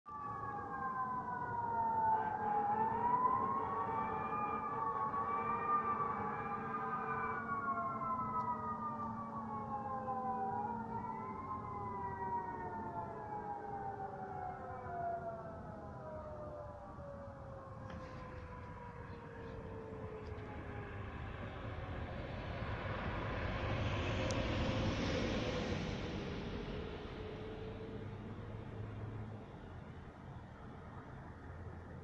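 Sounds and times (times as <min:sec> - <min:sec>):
fire siren wailing: 0:00.1 - 0:32.0.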